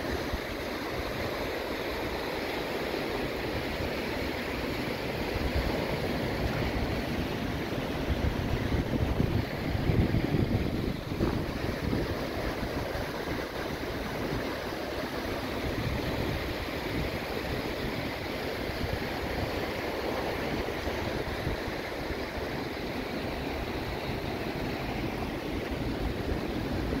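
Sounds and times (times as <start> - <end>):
sea surf breaking on shore: 0.0 - 27.0
wind rumbling on microphone: 0.0 - 27.0.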